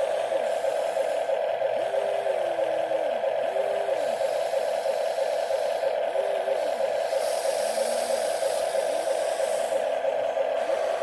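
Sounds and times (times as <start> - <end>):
toy electric motors whining: 0.0 - 11.0.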